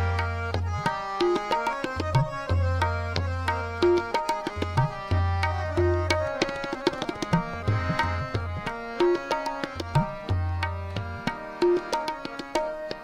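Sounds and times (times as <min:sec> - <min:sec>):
harmonium held notes: 0:00.0 - 0:13.0
tabla strokes: 0:00.0 - 0:13.0.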